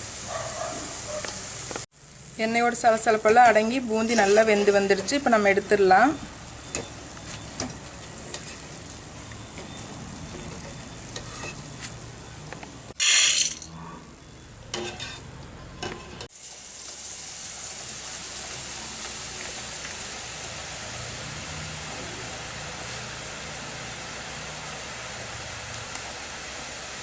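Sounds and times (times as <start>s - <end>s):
batter frying in hot oil: 0.0s - 13.0s, 14.7s - 27.0s.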